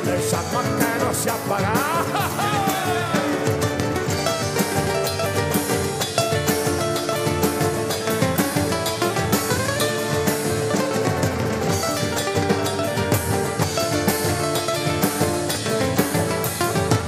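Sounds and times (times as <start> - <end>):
acoustic guitar lead melody: 0.0 - 17.0
drum kit: 0.0 - 17.0
guitars: 0.0 - 17.0.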